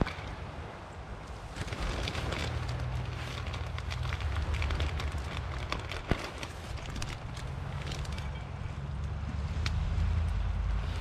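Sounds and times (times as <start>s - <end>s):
campfire crackling: 0.0s - 11.0s
wind rumble on microphone: 0.0s - 11.0s.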